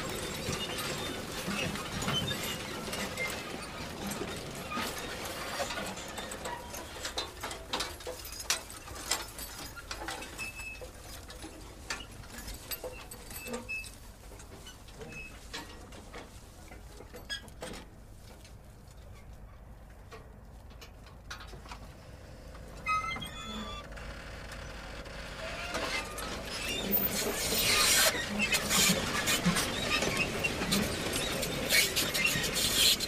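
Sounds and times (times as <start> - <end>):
manure spreader mechanism rattling: 0.0 - 33.0.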